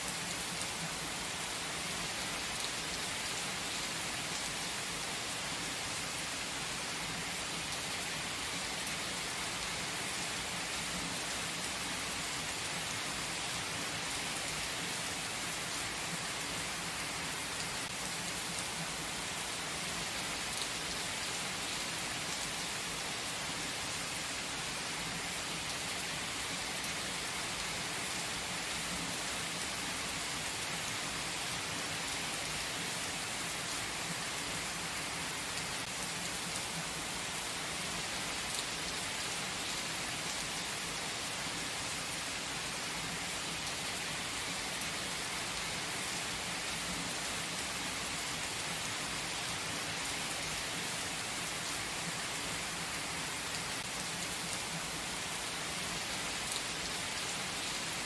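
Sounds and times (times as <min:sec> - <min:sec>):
rain falling on trees: 0:00.0 - 0:58.0.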